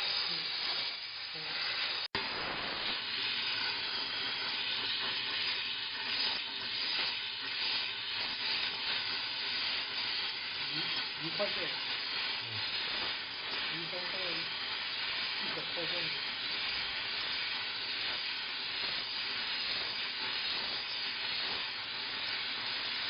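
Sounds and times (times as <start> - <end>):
steam mop hissing: 0.0 - 23.0.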